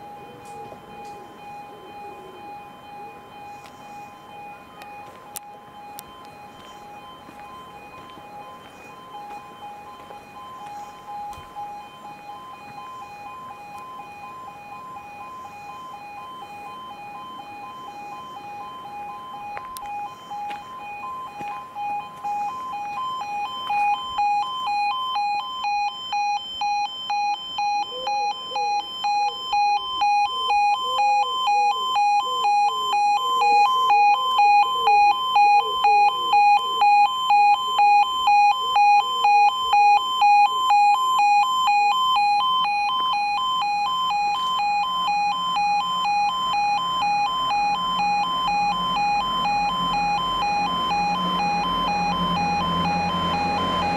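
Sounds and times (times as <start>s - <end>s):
level crossing alarm: 0.0s - 53.9s.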